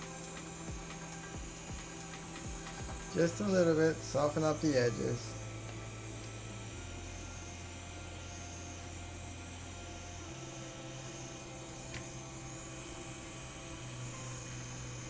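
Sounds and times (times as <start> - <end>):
steady electric hum: 0.0 - 15.0.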